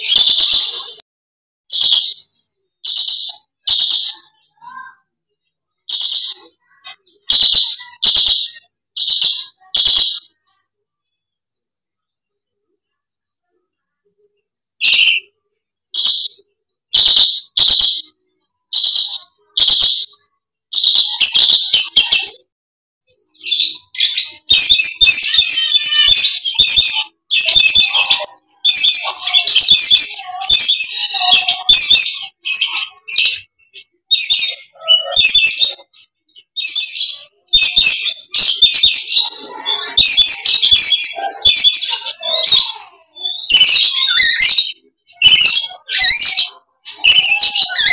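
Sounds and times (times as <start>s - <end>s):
lories screeching: 0.0s - 1.0s, 1.7s - 5.0s, 5.9s - 10.4s, 16.0s - 16.4s, 17.0s - 22.5s, 23.4s - 47.9s.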